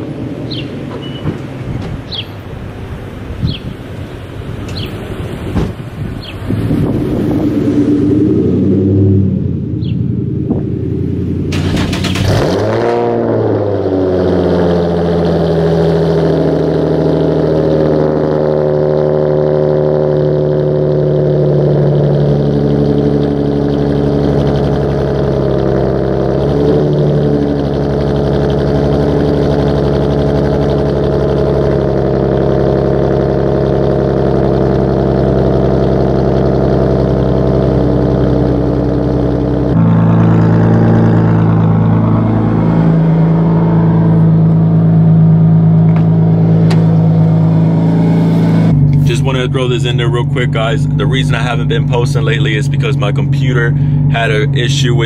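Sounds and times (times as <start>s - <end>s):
car engine starting and idling: 0.0s - 55.0s.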